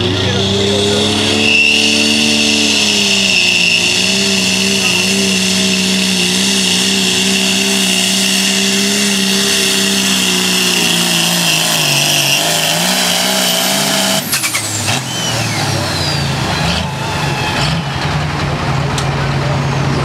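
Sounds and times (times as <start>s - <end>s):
diesel engine running flat out: 0.0s - 20.0s
high turbo whine: 0.0s - 20.0s.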